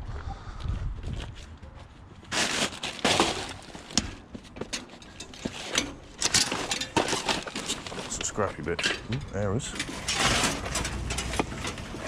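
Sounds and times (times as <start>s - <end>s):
scrap scraping and rustling: 1.1s - 12.0s.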